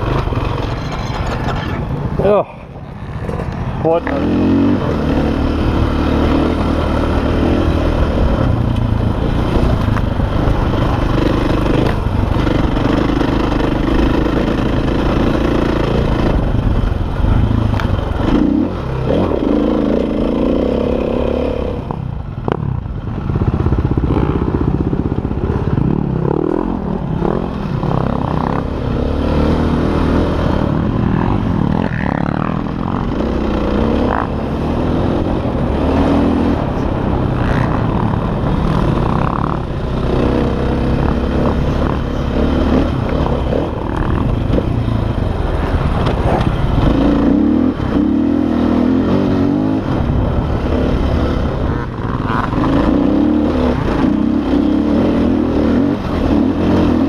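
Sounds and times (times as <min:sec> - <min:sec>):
dirt bike engine revving: 0:03.1 - 0:16.6, 0:17.4 - 0:57.0.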